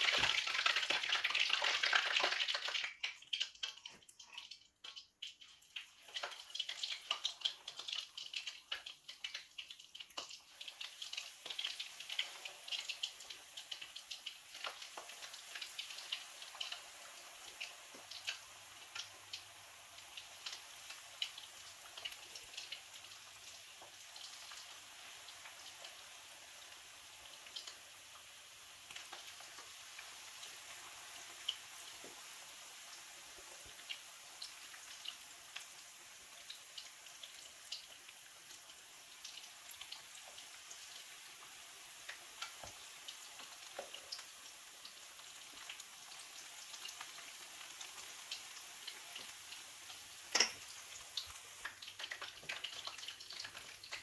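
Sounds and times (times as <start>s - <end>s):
chicken sizzling in hot oil: 0.0s - 54.0s
oil popping and crackling: 0.0s - 54.0s.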